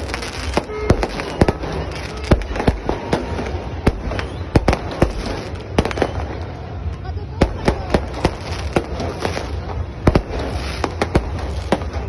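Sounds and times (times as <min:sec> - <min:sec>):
fireworks bangs and pops: 0:00.0 - 0:12.0
steady background din: 0:00.0 - 0:12.0.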